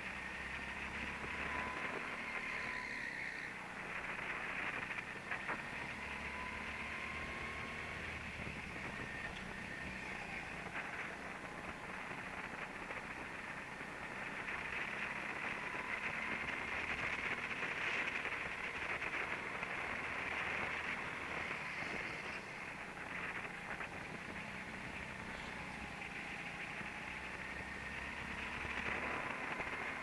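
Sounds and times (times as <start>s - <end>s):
go-kart rushing noise with whine: 0.0s - 30.0s.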